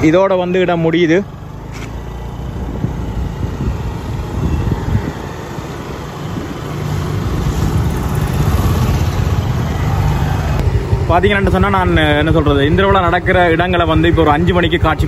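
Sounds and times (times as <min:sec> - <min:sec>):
motor scooter engines running: 0:00.0 - 0:15.0.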